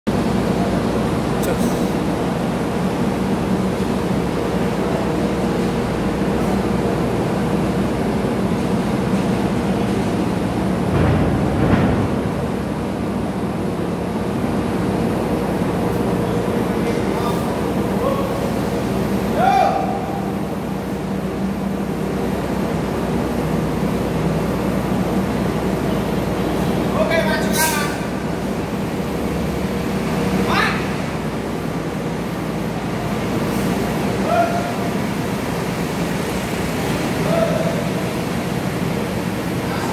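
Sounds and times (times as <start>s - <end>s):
low drone of engines and machinery: 0.1s - 39.9s.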